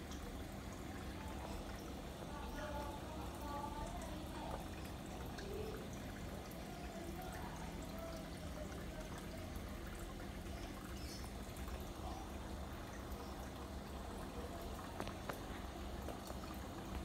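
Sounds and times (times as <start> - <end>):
low steady hum: 0.0 - 17.0
water trickling and pouring: 0.0 - 17.0.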